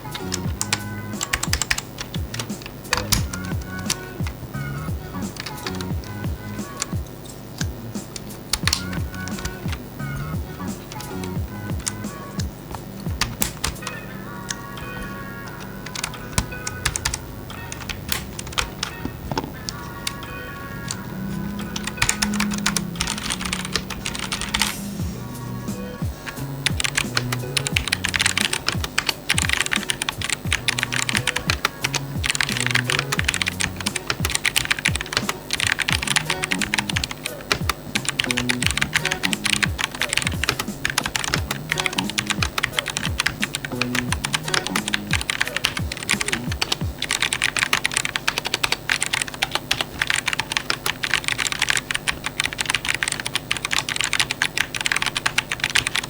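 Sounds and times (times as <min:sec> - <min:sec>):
mechanical keyboard typing: 0:00.0 - 0:25.0, 0:26.0 - 0:56.0
soft background music: 0:00.0 - 0:49.2.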